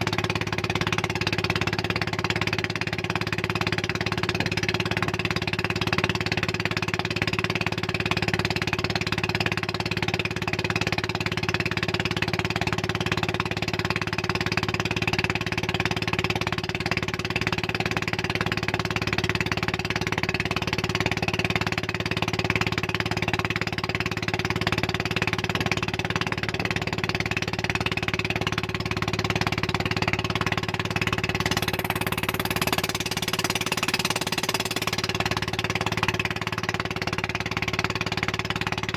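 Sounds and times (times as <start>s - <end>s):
motorboat engine droning: 0.0s - 38.9s.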